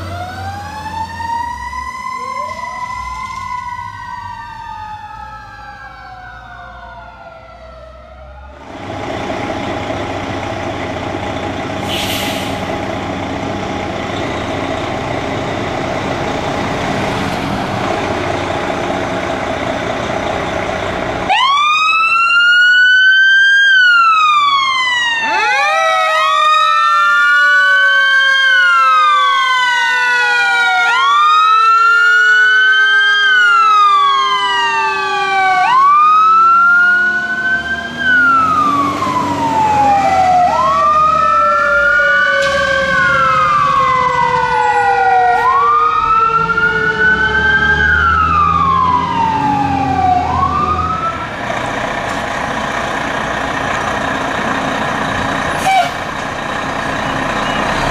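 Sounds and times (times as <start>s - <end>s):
diesel engine rumble: 0.0s - 57.9s
fire engine siren wailing: 0.0s - 57.9s.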